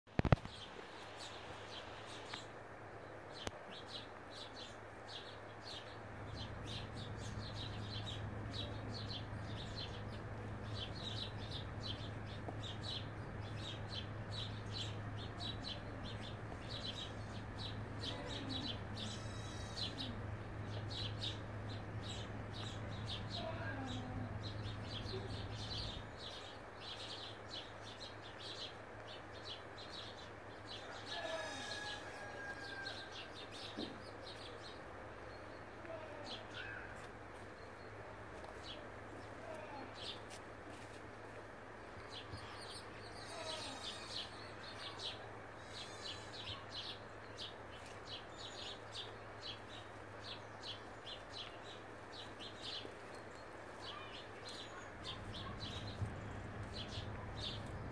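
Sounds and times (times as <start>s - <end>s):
small birds chirping: 0.1s - 57.9s
low steady hum: 0.3s - 57.9s.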